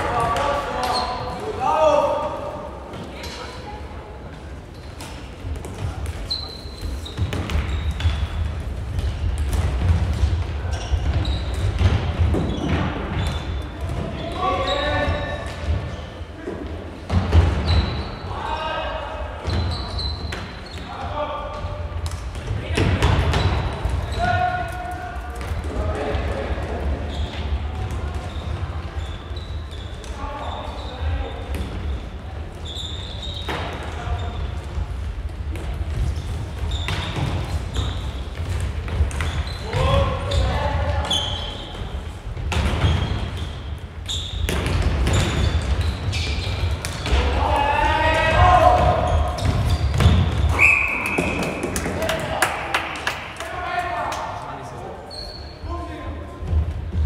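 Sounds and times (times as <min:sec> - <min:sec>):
shoes squeaking on hall floor: 0:00.0 - 0:51.9, 0:54.6 - 0:57.0.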